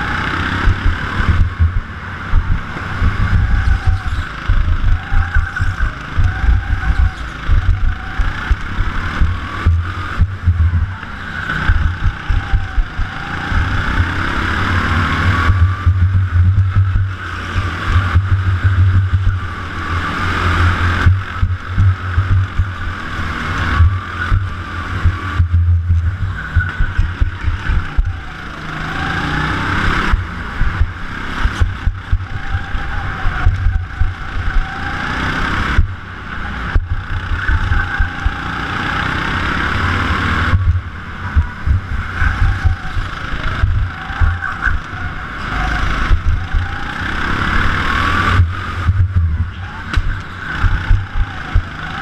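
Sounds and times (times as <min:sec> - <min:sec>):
wind rumble on microphone: 0:00.0 - 0:14.3, 0:15.2 - 0:52.0
go-kart engine: 0:00.0 - 0:52.0.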